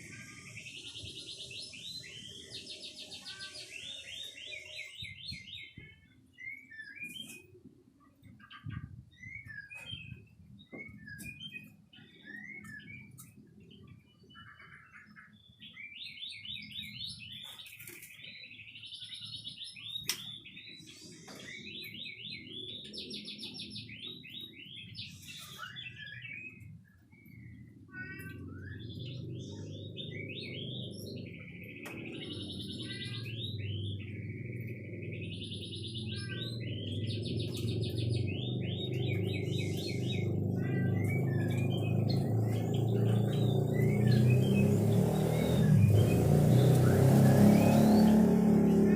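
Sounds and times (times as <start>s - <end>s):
songbird trilling and warbling: 0.0s - 48.9s.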